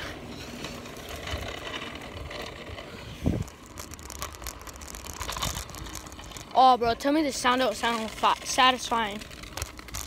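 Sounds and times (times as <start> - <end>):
scooter wheels rolling on asphalt: 0.0 - 10.0.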